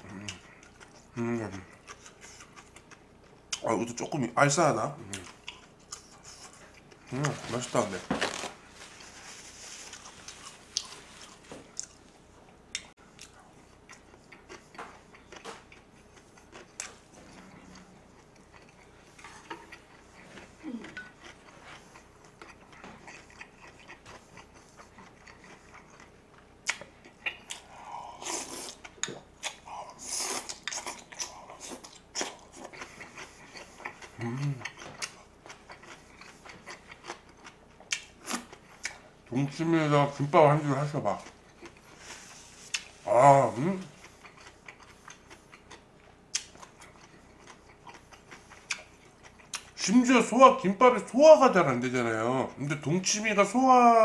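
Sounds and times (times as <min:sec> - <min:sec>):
chewing food: 0:00.0 - 0:04.1, 0:05.0 - 0:50.1.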